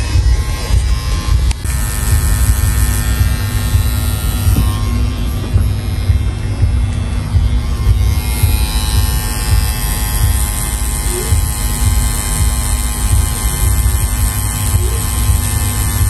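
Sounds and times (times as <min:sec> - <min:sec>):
tattoo machine buzzing: 0:00.0 - 0:16.0.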